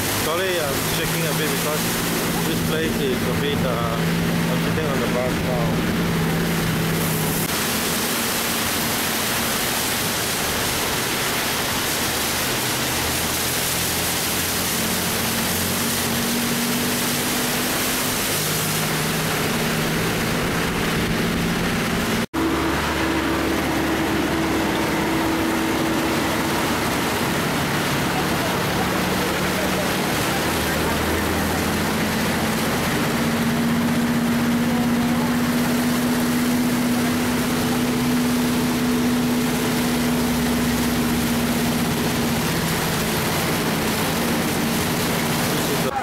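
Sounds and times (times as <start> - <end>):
low engine hum: 0.0 - 46.0
road noise inside a bus: 3.7 - 46.0.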